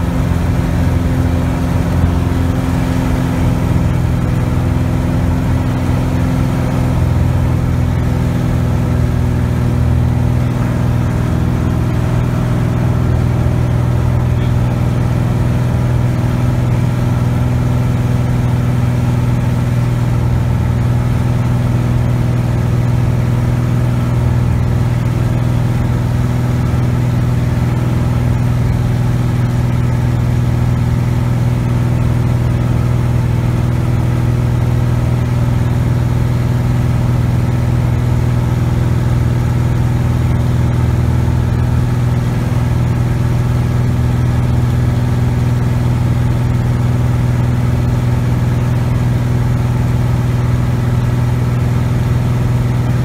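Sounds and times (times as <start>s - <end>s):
light aircraft engine drone: 0.0s - 53.0s.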